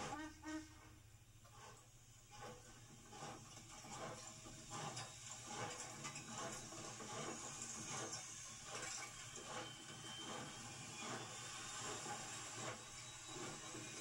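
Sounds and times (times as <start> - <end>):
steam hissing: 2.2 - 14.0
locomotive running gear clanking: 2.3 - 14.0.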